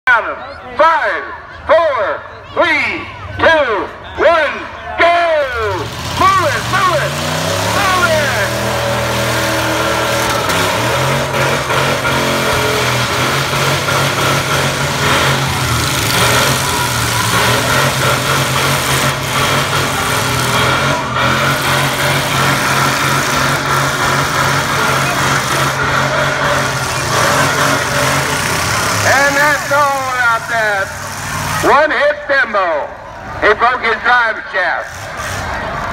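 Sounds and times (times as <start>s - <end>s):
truck engines running: 0.0s - 35.9s.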